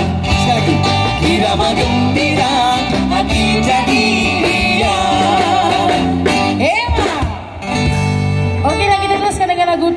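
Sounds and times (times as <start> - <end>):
live band music with guitars: 0.0 - 9.9.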